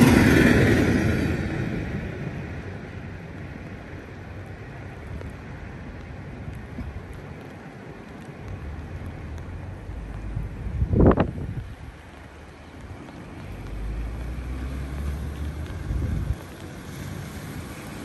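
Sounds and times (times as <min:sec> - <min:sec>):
freight train rumble: 0:00.0 - 0:18.0
wind rumble on microphone: 0:00.0 - 0:18.0
faint rain ticks: 0:03.0 - 0:18.0.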